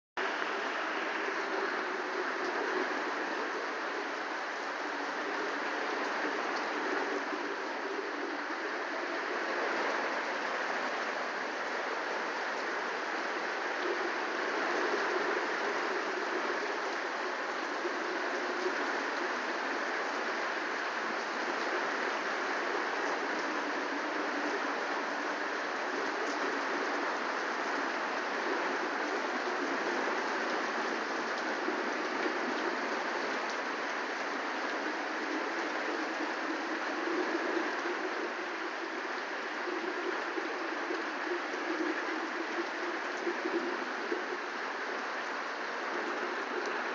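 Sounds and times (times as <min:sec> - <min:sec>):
heavy rain on gravel and paving: 0:00.2 - 0:46.9.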